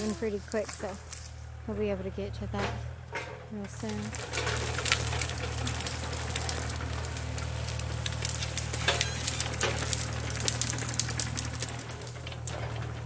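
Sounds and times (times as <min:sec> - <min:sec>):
branches cracking and snapping: 0:00.0 - 0:01.6, 0:03.8 - 0:13.0
excavator diesel engine running: 0:00.0 - 0:13.0.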